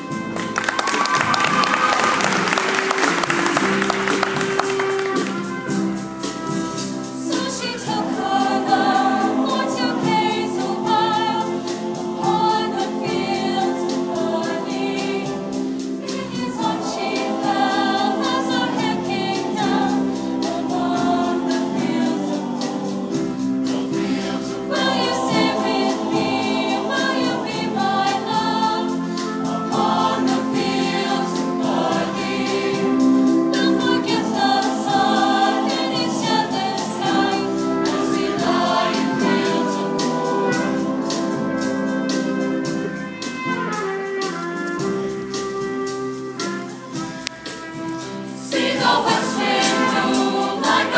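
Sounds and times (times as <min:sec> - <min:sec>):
choir singing in harmony: 0:00.0 - 0:50.9.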